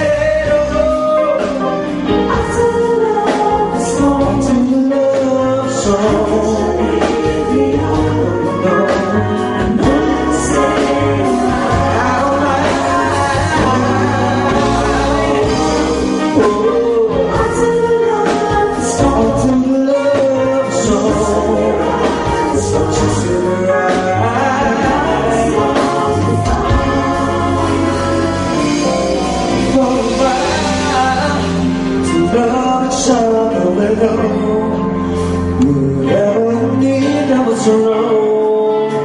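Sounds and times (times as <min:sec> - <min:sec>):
love song with singing: 0:00.0 - 0:39.0
steady bass: 0:00.0 - 0:39.0.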